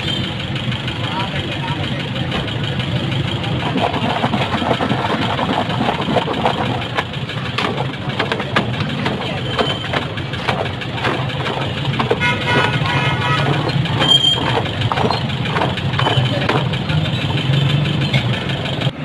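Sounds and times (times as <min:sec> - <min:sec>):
vehicle engines running: 0:00.0 - 0:19.0
clatter and knocks: 0:02.2 - 0:19.0.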